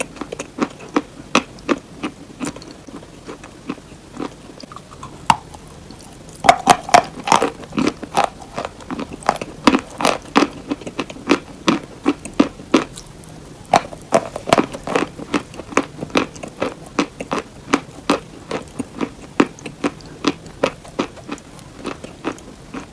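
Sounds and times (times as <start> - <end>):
chewing crunchy hard cheese: 0.0 - 22.9.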